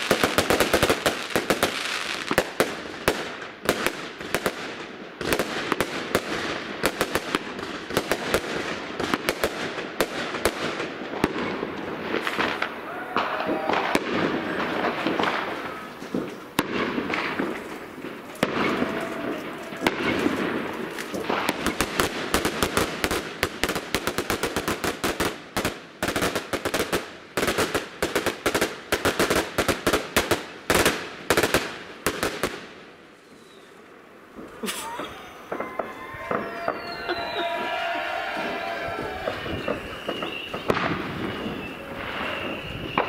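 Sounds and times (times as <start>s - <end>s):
crackling firework pops: 0.0s - 32.8s, 39.2s - 43.0s
firework bangs: 0.0s - 33.0s, 34.3s - 43.0s.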